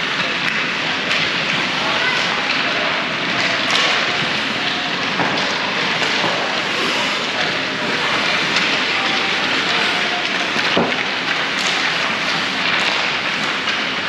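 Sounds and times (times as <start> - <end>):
ice hockey rink din: 0.0 - 14.0.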